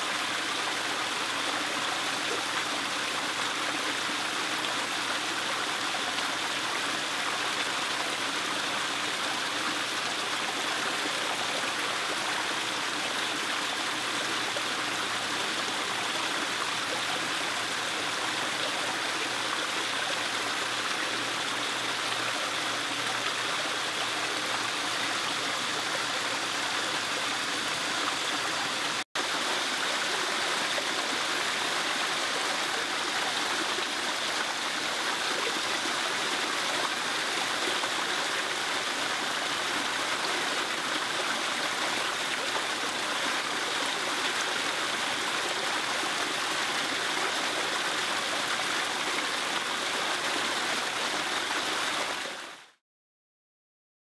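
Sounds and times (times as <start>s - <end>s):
small waterfall splashing: 0.0s - 52.8s.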